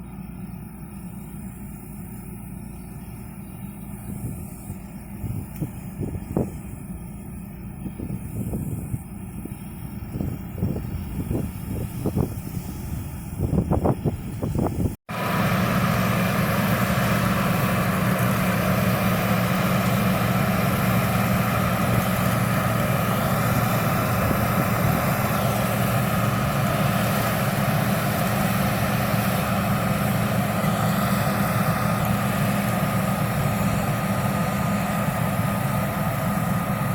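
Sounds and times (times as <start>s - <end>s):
heavy machinery engine running: 0.0s - 36.9s.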